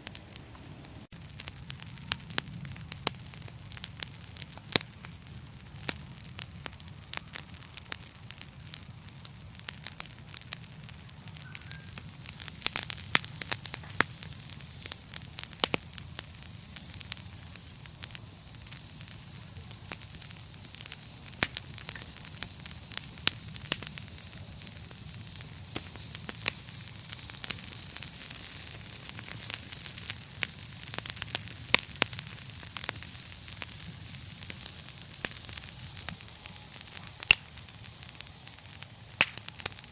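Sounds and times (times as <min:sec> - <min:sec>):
fire crackling and popping: 0:00.0 - 0:39.9
hiss of burning: 0:00.0 - 0:39.9.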